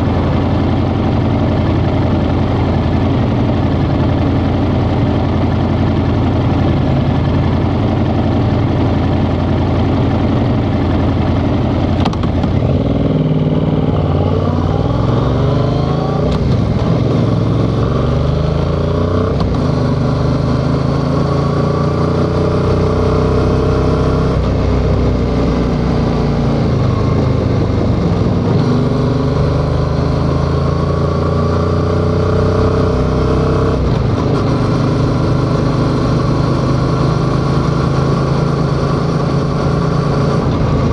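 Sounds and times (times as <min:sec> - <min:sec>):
motorcycle engine revving through gears: 0:00.0 - 0:40.9.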